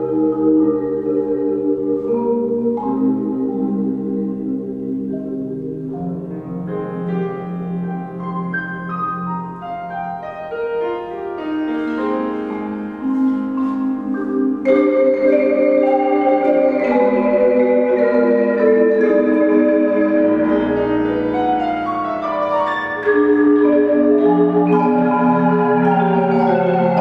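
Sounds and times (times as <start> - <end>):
marimbas and vibraphone: 0.0 - 27.0
percussion ensemble with piano: 0.0 - 27.0.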